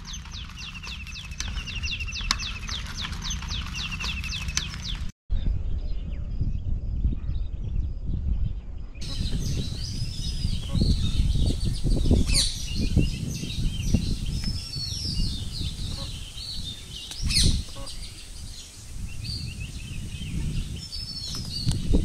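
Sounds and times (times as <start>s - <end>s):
small birds chirping: 0.0s - 5.1s, 9.0s - 22.0s.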